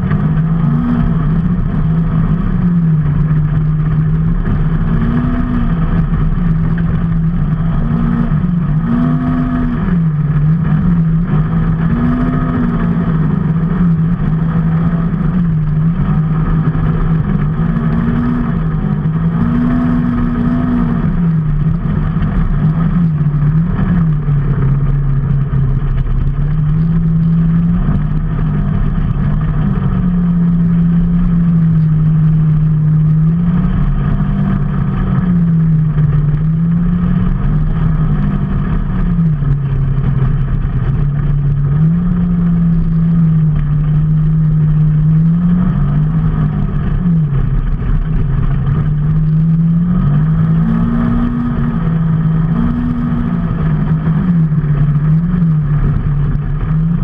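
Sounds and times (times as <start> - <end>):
road noise: 0.0 - 57.0
vehicle engine revving: 0.0 - 57.0.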